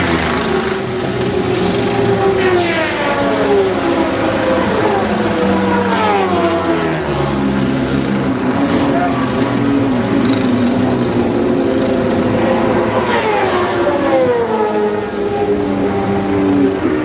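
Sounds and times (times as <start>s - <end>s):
go-kart engines passing: 0.0s - 17.0s.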